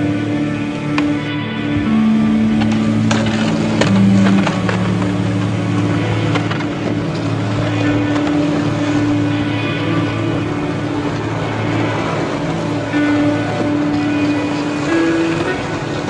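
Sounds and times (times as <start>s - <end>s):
droning low music: 0.0s - 16.0s.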